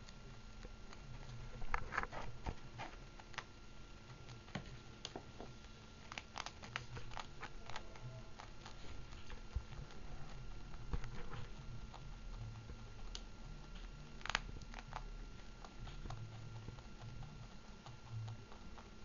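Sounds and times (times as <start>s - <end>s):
faint steady hum: 0.0s - 19.0s
guinea pig rustling in hay: 0.0s - 19.0s.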